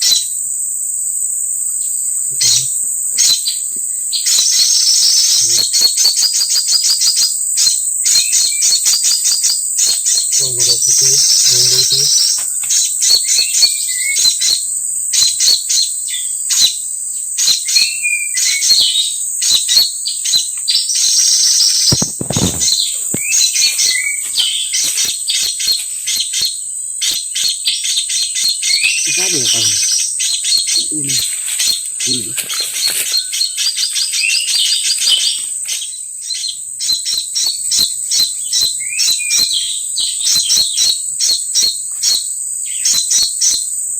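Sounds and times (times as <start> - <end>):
high-pitched insect drone: 0.0 - 43.9
birds chirping: 1.5 - 43.8.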